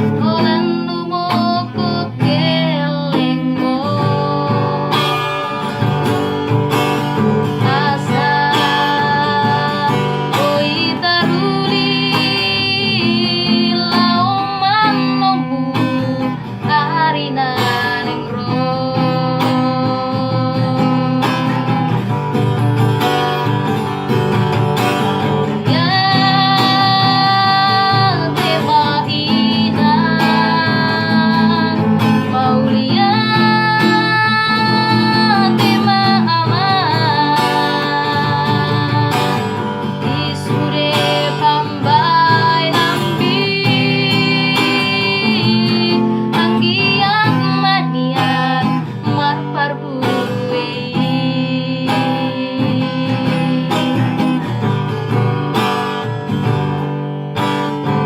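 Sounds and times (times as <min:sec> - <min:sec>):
woman singing: 0:00.0 - 0:56.8
strummed acoustic guitar: 0:00.0 - 0:58.0.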